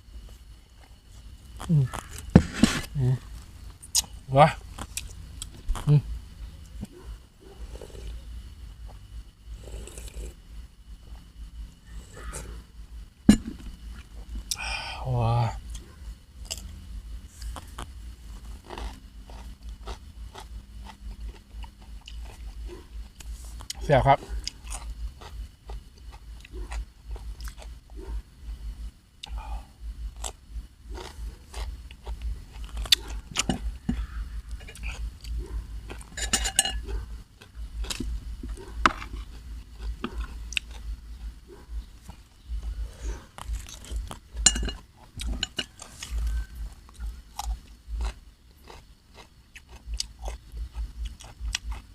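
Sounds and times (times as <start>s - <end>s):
close chewing and crunching: 0.2s - 10.4s, 15.3s - 28.6s, 29.2s - 51.9s.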